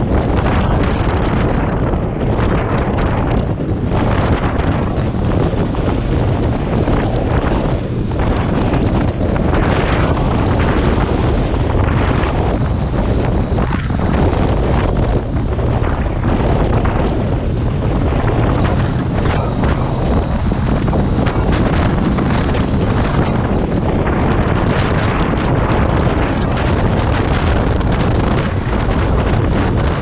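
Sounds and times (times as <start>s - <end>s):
rush of motorcycle ride: 0.0s - 30.0s
wind buffeting microphone: 0.0s - 30.0s.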